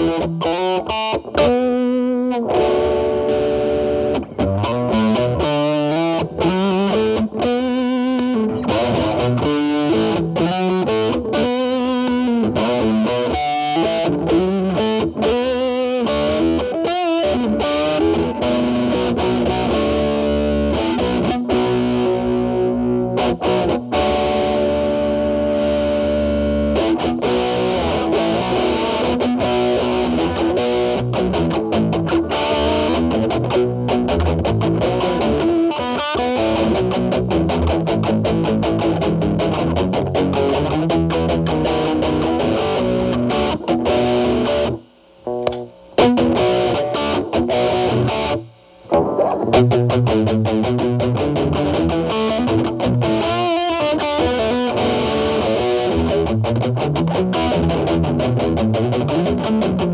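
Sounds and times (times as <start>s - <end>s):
electric guitar notes and chords: 0.0s - 59.9s.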